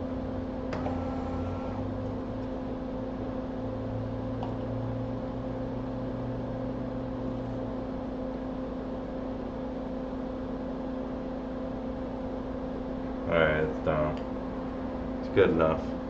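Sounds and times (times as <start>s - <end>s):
electrical hum and fan whir: 0.0s - 16.0s.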